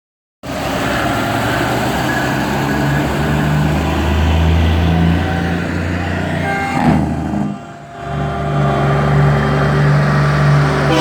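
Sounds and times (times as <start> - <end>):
heavy truck engine rumbling: 0.4 - 11.0.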